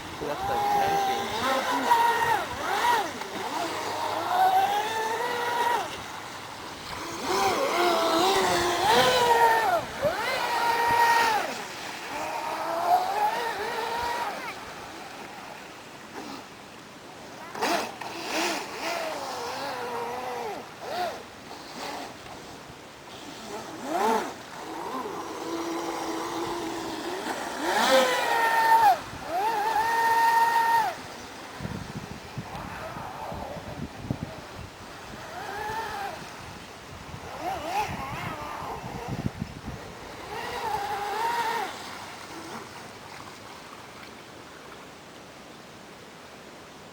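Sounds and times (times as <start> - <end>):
electric motor whining: 0.0 - 16.6, 17.4 - 34.2, 35.0 - 42.8
faint water and wind noise: 0.0 - 46.9.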